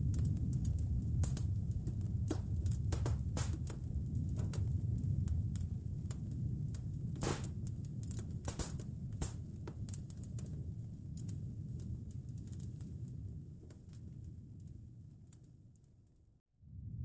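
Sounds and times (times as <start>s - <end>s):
wood fire crackling: 0.0s - 16.3s
low rumble of fire: 0.0s - 17.0s.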